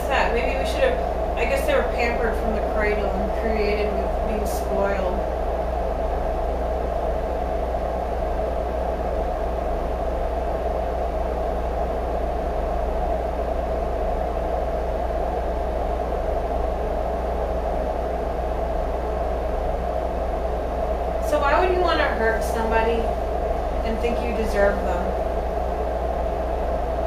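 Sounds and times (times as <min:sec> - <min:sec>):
background hum and hiss: 0:00.0 - 0:27.0
low drone: 0:00.0 - 0:27.0.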